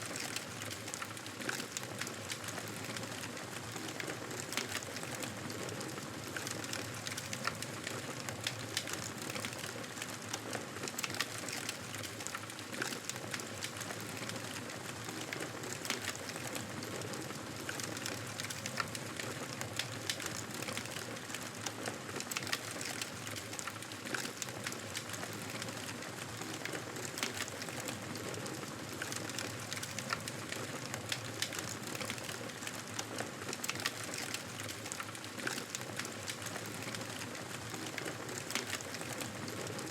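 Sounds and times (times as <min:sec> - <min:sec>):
wood fire burning: 0:00.1 - 0:39.9.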